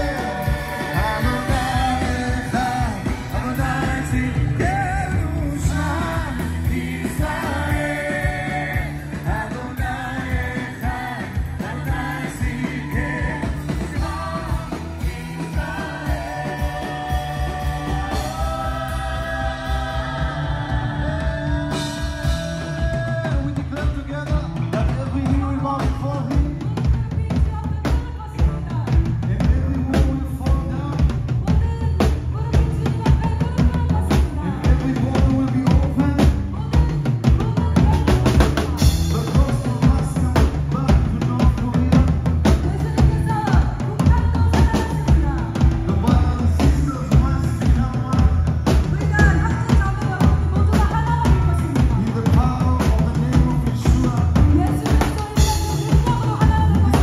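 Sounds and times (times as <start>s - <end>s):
drums driving beat: 0.0s - 57.0s
live band playing worship music: 0.0s - 57.0s.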